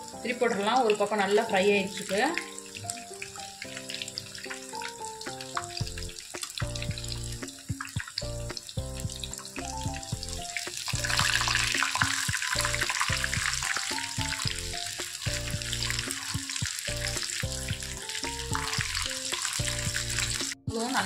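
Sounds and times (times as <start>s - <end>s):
background music: 0.0s - 21.0s
chicken deep-frying in oil: 0.0s - 21.0s.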